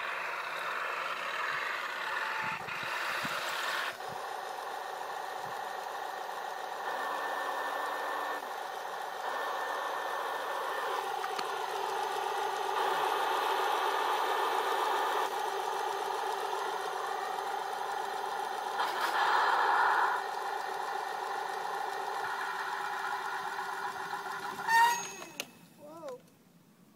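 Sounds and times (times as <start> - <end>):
toy tank mechanical hum: 0.0 - 26.3.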